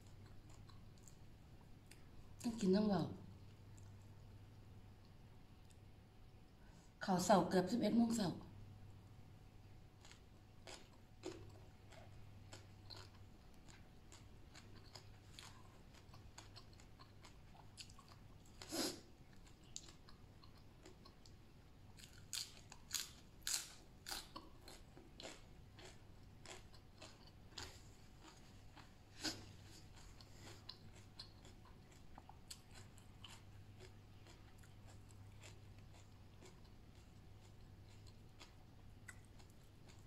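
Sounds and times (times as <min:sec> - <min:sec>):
person chewing and crunching food: 0:00.0 - 0:02.6, 0:09.6 - 0:40.0.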